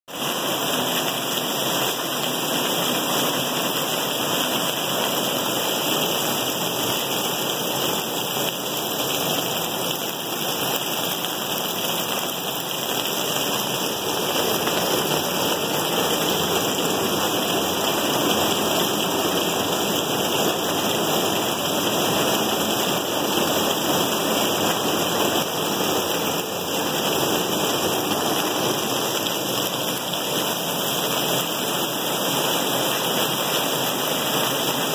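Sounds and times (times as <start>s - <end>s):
rain on a plastic roof: 0.1s - 34.9s.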